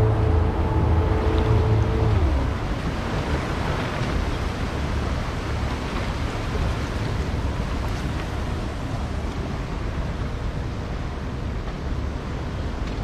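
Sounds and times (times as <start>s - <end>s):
boat engine humming: 0.0s - 13.0s
wind and water rushing: 0.0s - 13.0s.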